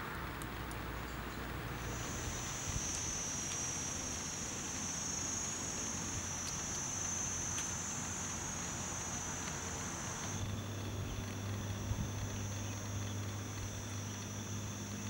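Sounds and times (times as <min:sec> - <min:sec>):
faint low hum: 0:00.0 - 0:15.0
insects droning: 0:00.0 - 0:15.0.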